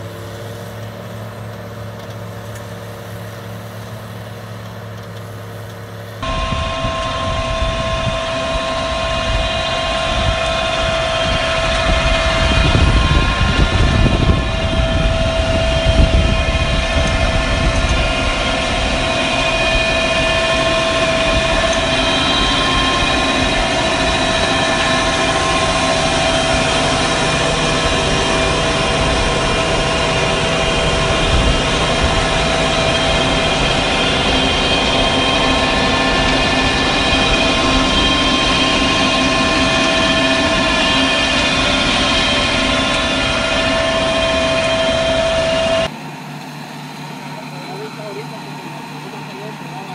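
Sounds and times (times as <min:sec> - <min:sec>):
bed-forming machine running: 0:00.0 - 0:49.9
high-pitched machine whine: 0:00.0 - 0:49.9
tracked tractor pulling cultivator: 0:00.0 - 0:49.9.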